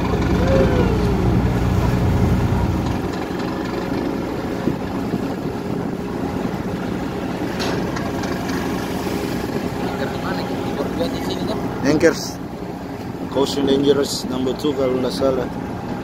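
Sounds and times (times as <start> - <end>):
steady rushing noise: 0.0 - 12.9
ship engine humming: 0.0 - 16.0.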